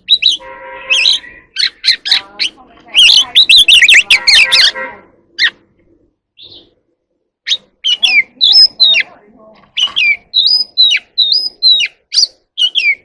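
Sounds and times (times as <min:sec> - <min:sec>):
magpie-robin singing: 0:00.0 - 0:06.8, 0:07.4 - 0:13.0.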